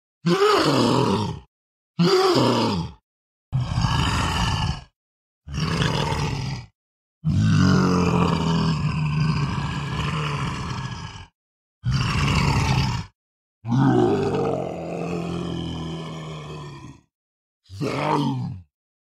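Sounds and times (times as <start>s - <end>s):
monster growls: 0.2s - 17.1s, 17.7s - 18.7s.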